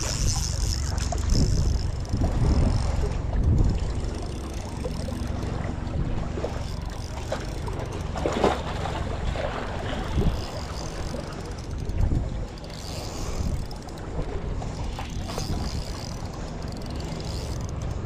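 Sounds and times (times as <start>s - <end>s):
fishing reel whirring and clicking: 0.0s - 18.0s
reel drag clicks: 0.0s - 18.0s
wind buffeting microphone: 0.0s - 18.0s.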